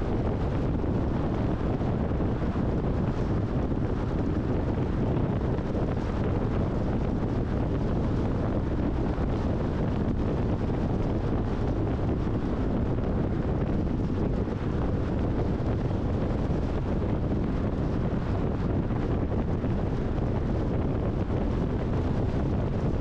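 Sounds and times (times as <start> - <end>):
car road noise at speed: 0.0 - 23.0
wind buffeting microphone: 0.0 - 23.0.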